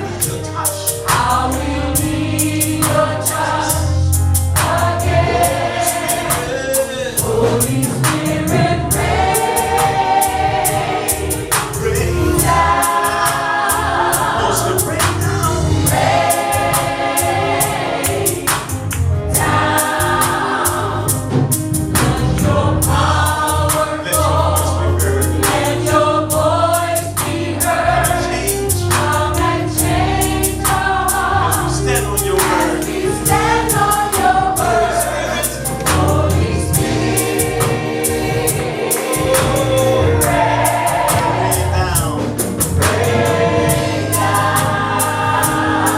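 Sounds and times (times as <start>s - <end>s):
bass line: 0.0s - 45.9s
choir singing gospel song: 0.0s - 45.9s
cymbal and drum beat: 0.0s - 45.9s.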